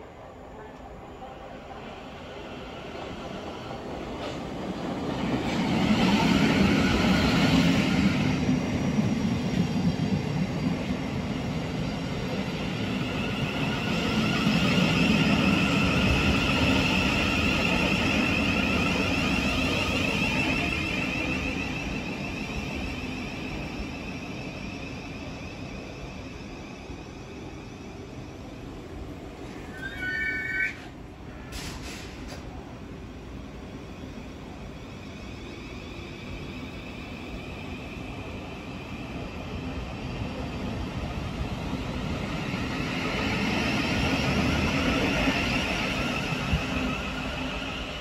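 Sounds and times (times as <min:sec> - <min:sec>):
train wheels rumbling on rails: 0:01.6 - 0:29.8, 0:30.8 - 0:48.0.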